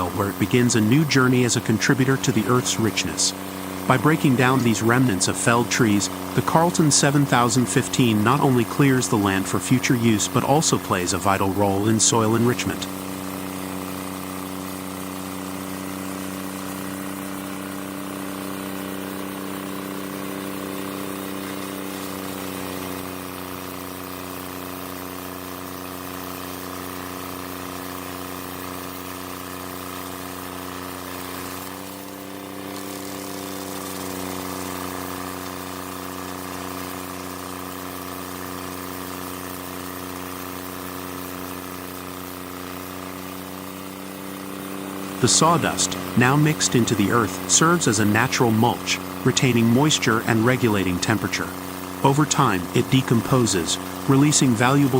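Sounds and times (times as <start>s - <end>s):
stump grinder engine grinding: 0.0s - 54.9s.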